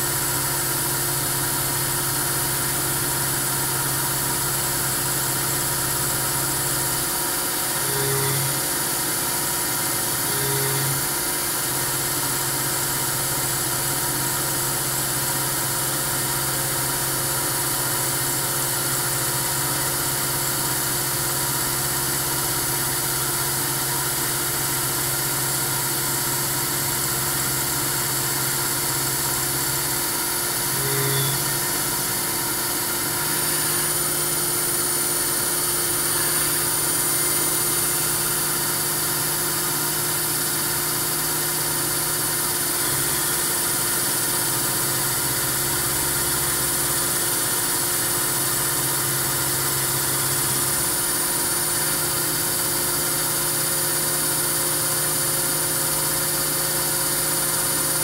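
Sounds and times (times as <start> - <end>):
milling machine hum and whine: 0.0 - 58.0.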